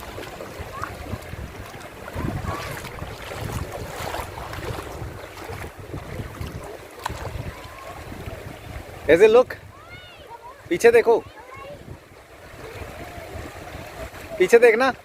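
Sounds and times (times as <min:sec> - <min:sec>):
wind buffeting microphone: 0:00.0 - 0:14.4
sea waves washing: 0:00.0 - 0:15.0.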